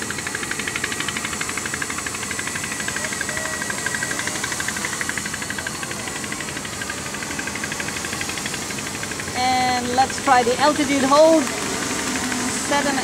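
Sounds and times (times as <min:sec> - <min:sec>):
quadcopter whirring buzz: 0:00.0 - 0:13.0.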